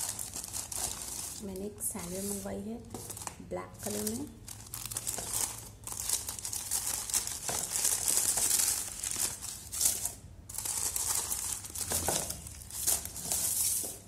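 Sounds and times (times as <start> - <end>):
tissue paper crinkling: 0.0 - 14.0.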